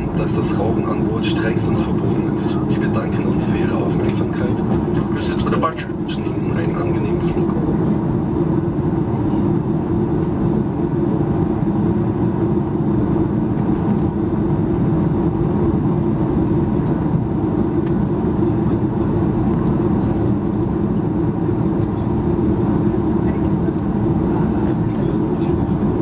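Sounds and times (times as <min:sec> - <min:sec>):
jet engines running: 0:00.0 - 0:26.0
rush of cabin air: 0:00.0 - 0:26.0.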